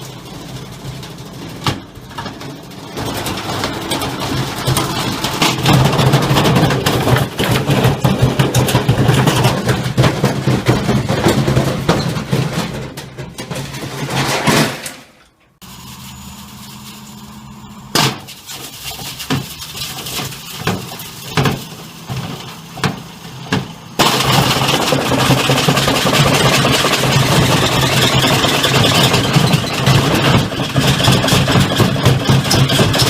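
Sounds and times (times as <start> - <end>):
objects banging in washing drum: 0.0 - 15.2, 18.0 - 33.0.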